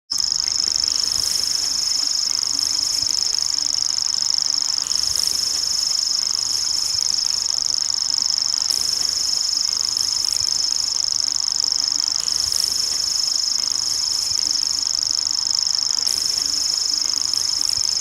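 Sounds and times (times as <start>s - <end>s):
bird reeling trill: 0.2s - 18.0s.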